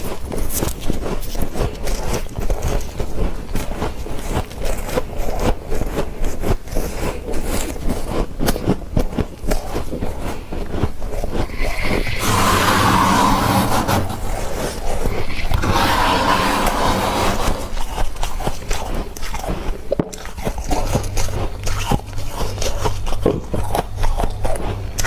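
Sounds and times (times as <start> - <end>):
freezer frost crunching: 0.0 - 25.0.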